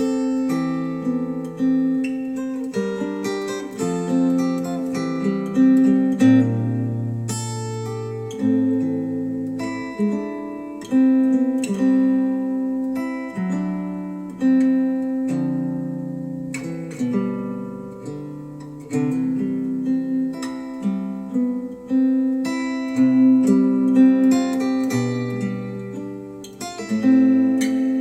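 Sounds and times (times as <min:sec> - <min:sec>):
acoustic guitar chords: 0:00.0 - 0:28.0.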